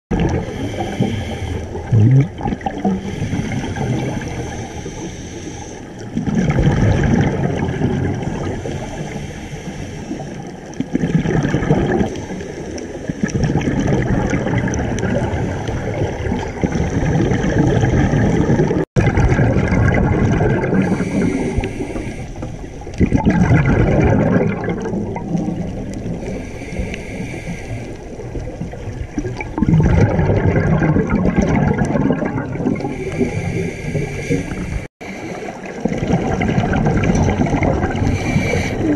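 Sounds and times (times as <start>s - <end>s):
underwater bubbles gurgling: 0.1s - 38.9s.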